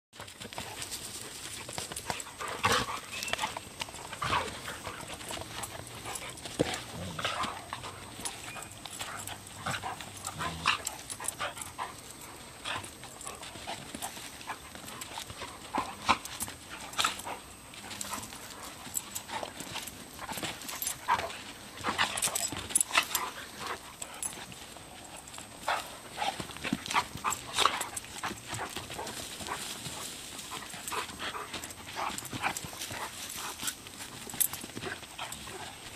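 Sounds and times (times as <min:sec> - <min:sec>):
dogs play-wrestling: 0:00.2 - 0:35.9.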